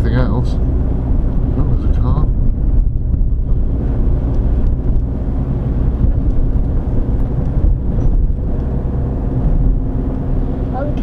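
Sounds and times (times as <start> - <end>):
car engine hum: 0.0 - 11.0
tyre and road noise: 0.0 - 11.0.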